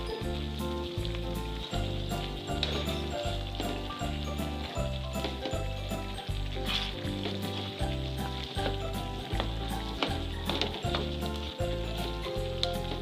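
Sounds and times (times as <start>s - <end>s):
background music with steady beat: 0.0s - 13.0s
chicken sizzling in a wok: 0.0s - 13.0s.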